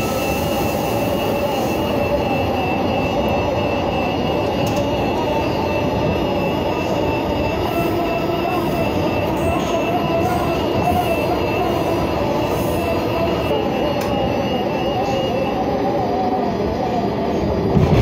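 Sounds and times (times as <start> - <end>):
high steady whine: 0.0 - 18.0
train wheels rumbling on rails: 0.0 - 18.0.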